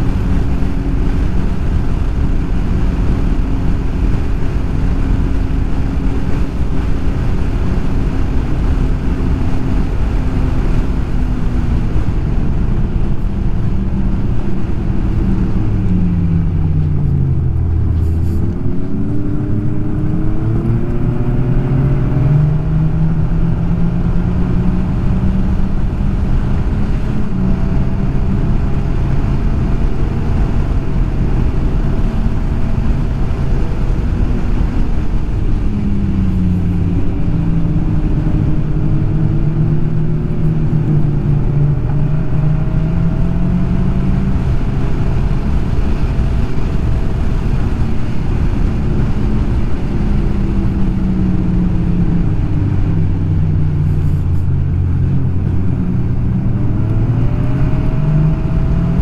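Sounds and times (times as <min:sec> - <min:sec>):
snowmobile engine running: 0:00.0 - 0:59.0
steady rushing noise: 0:00.0 - 0:59.0.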